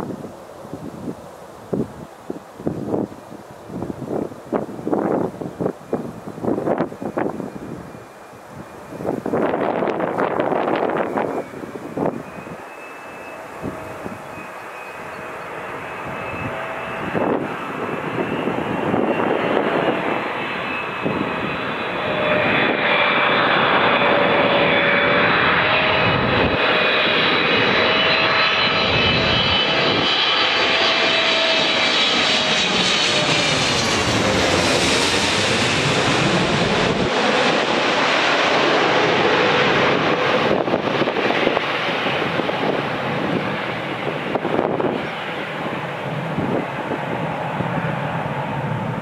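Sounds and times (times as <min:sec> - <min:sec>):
jet airliner roar overhead: 0:00.0 - 0:49.0.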